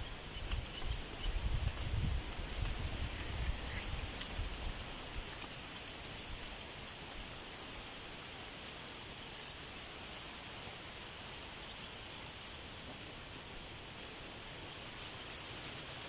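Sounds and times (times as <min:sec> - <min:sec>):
high-pitched hiss: 0:00.0 - 0:16.0.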